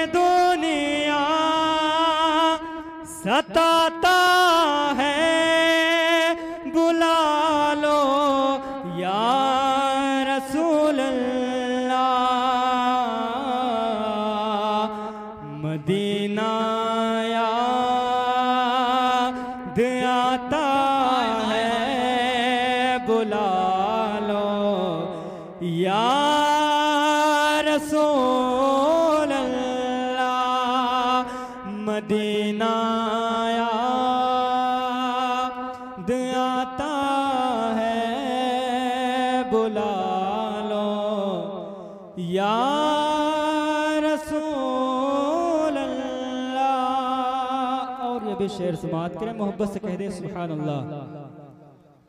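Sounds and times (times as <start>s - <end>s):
man singing devotional song: 0.0s - 52.0s.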